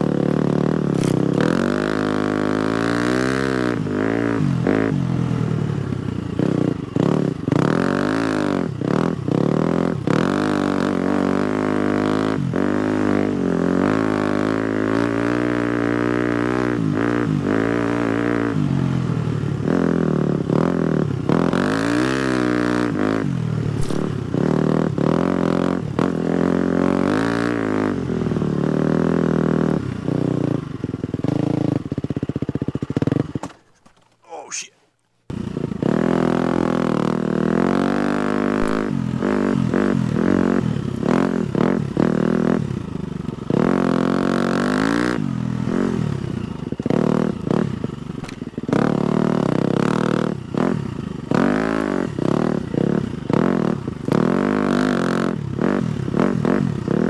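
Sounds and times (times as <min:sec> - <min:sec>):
dirt bike engine revving: 0:00.0 - 0:33.4, 0:35.3 - 0:57.0.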